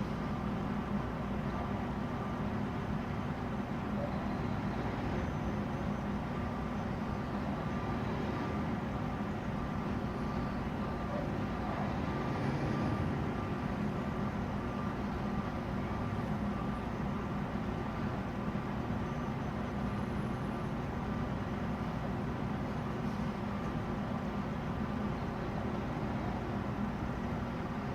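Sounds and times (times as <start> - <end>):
truck engine humming: 0.0 - 27.9.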